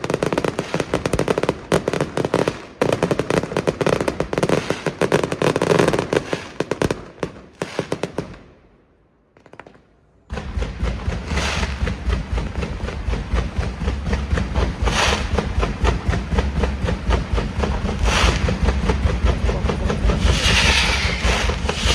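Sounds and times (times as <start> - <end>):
fireworks bangs and crackles: 0.0 - 21.9
fireworks barrage with deep rumble: 0.0 - 21.9.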